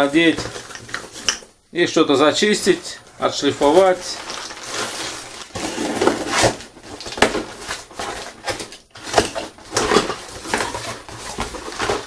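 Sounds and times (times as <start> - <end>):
packaging rustling: 0.0 - 1.6, 2.4 - 12.0.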